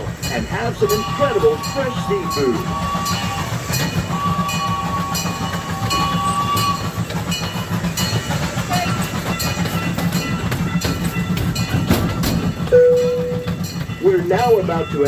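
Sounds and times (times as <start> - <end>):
train rumbling on track: 0.0 - 15.0
wheels clicking on rails: 0.0 - 15.0.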